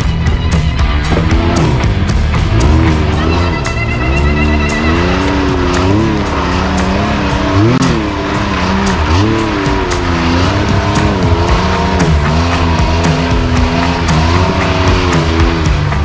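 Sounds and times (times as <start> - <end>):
engine revving under load: 0.6 - 16.0.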